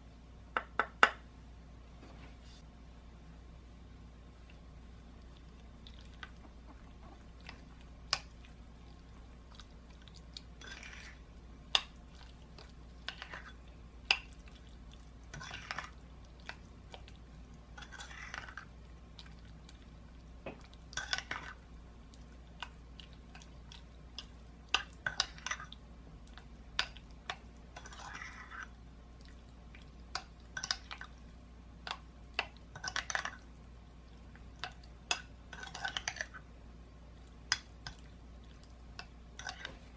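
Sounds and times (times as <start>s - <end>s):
spoon stirring wet scraping: 4.4s - 39.9s.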